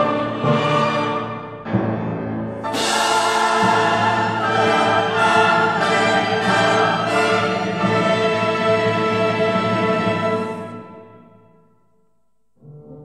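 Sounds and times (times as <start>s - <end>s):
orchestral music with held chords: 0.0s - 11.5s.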